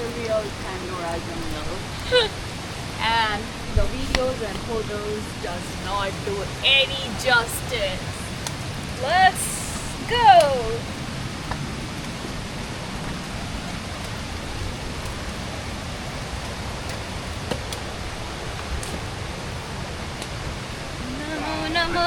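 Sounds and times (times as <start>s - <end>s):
water rushing in stream: 0.0s - 22.0s.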